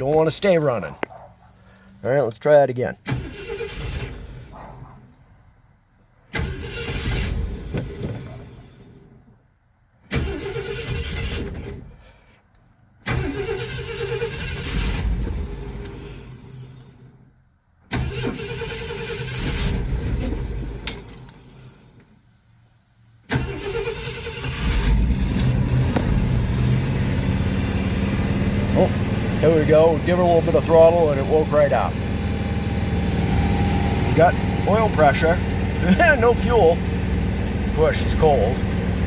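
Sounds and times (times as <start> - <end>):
car engine cranking and starting: 2.9 - 5.4, 6.1 - 22.2, 23.2 - 39.0.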